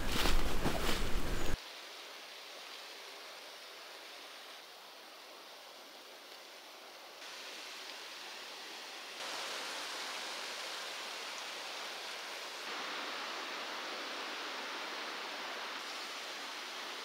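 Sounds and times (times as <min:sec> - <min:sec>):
wind rustling leaves in trees: 0:00.0 - 0:17.0.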